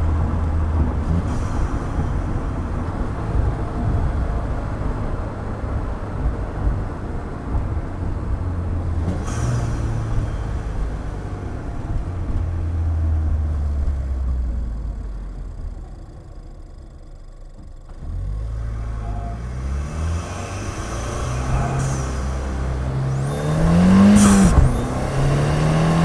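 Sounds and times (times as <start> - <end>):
car engine drone: 0.0 - 26.0.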